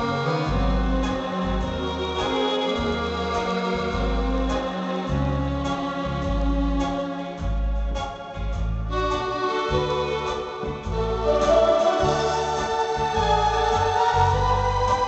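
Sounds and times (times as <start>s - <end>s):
accordion playing slow tune: 0.0s - 15.0s.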